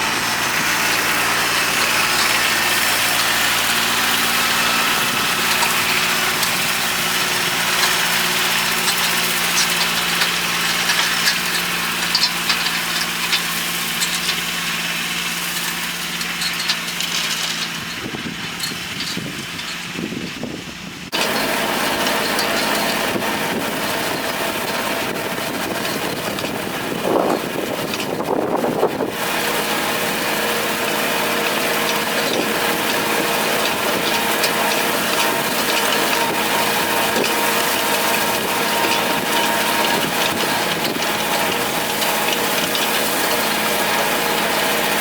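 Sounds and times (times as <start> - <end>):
hay tedder rotors clattering: 0.0 - 45.0
tractor engine hum: 0.0 - 45.0.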